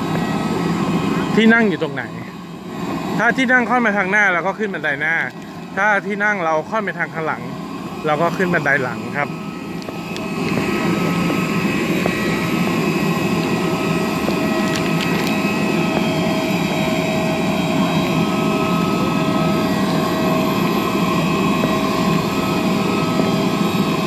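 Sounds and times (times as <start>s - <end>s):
jet turbine running: 0.0s - 24.0s.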